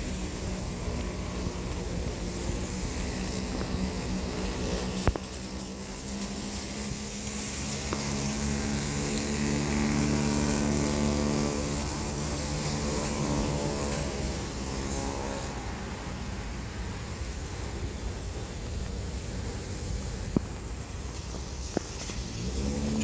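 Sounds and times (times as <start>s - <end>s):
high hiss: 0.0s - 23.0s
vehicle engine humming: 0.0s - 23.0s.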